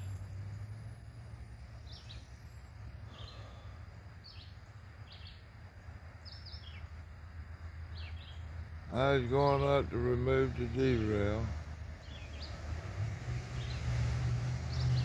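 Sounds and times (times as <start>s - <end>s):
bird chirping: 0.0s - 7.0s, 7.9s - 11.3s, 12.0s - 12.6s, 13.4s - 15.0s
low steady rumble: 0.0s - 15.0s.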